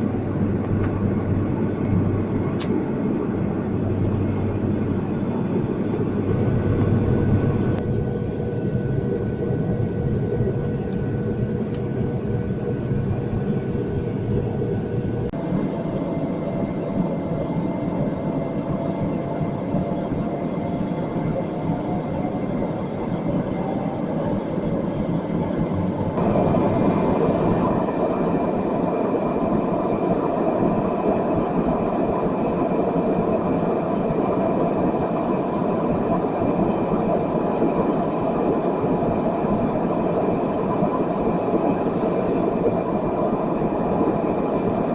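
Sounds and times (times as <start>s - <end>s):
jet engines and rushing air: 0.0s - 44.9s.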